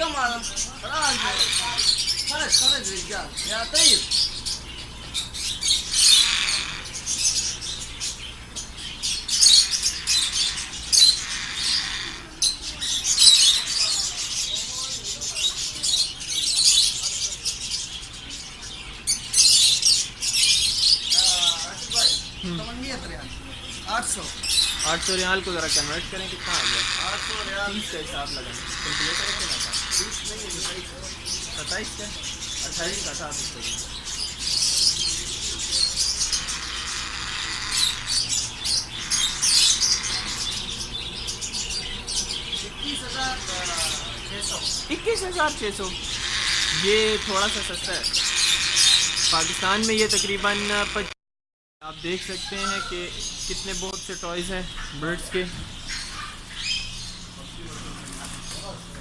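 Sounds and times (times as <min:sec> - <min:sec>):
small birds chirping: 0:00.0 - 0:51.2, 0:51.8 - 0:59.0.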